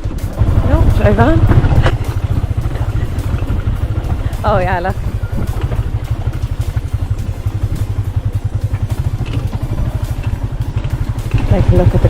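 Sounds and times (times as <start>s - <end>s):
knocks and rattles of bike: 0.0s - 12.0s
motorbike engine running: 0.0s - 12.0s.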